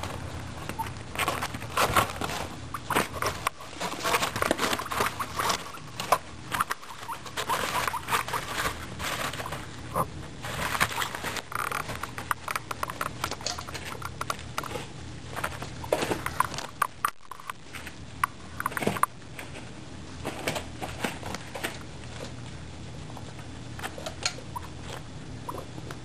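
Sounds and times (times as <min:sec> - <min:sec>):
guinea pigs crunching carrot: 0:00.0 - 0:26.0.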